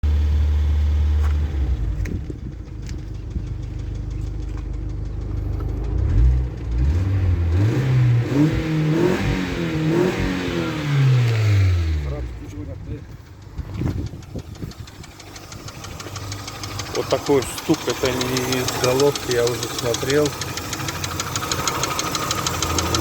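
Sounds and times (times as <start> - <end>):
car engine idling with knocking: 0.1 - 11.4, 12.0 - 23.0
car engine revving: 0.1 - 12.7, 13.4 - 23.0.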